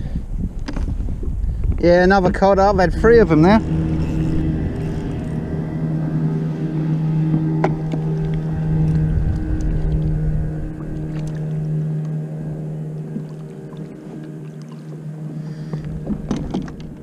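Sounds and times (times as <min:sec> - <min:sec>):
boat motor humming: 0:00.0 - 0:17.0.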